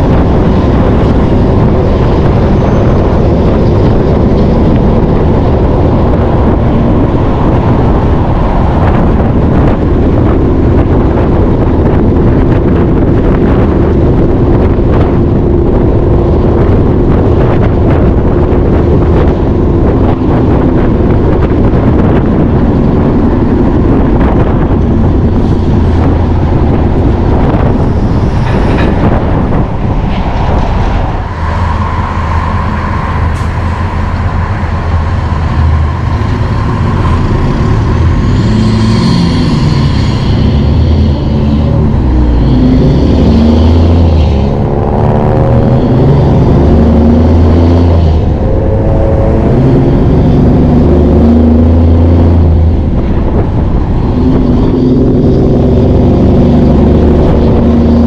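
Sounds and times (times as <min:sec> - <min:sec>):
heavy diesel engine running: 0:00.0 - 0:58.0
wind buffeting microphone: 0:00.0 - 0:58.0.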